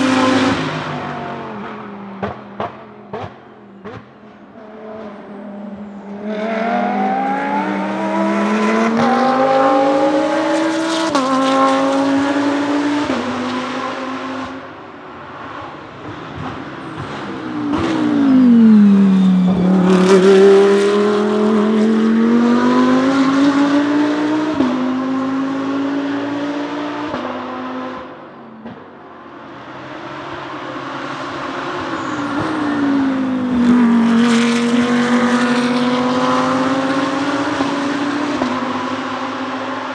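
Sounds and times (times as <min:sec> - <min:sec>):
racing car engine accelerating: 0:00.0 - 0:14.7, 0:16.4 - 0:28.2, 0:29.4 - 0:39.9.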